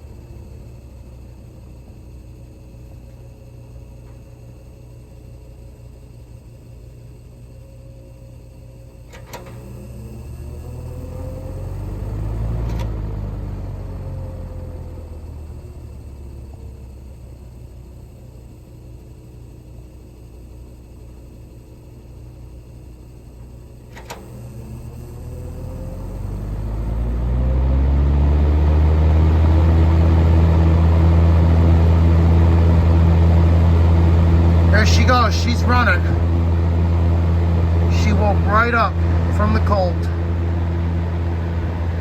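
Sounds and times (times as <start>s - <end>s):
fan motor humming: 0.0s - 42.0s.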